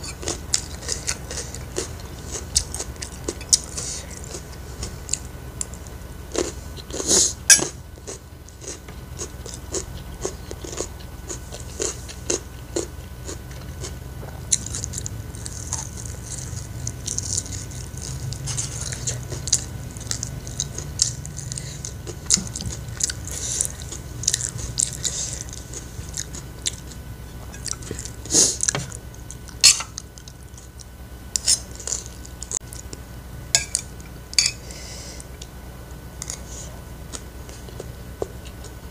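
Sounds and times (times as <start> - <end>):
person chewing food: 0.0 - 35.6, 36.2 - 38.9.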